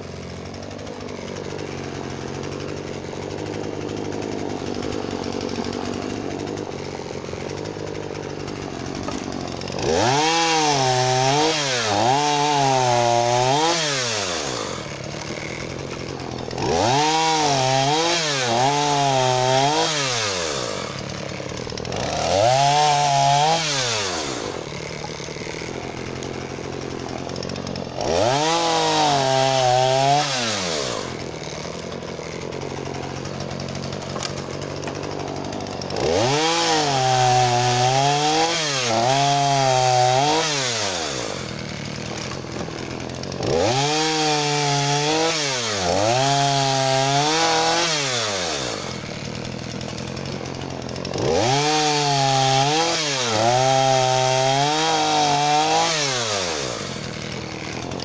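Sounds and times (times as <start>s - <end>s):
chainsaw idling and cutting wood: 0.0s - 58.0s.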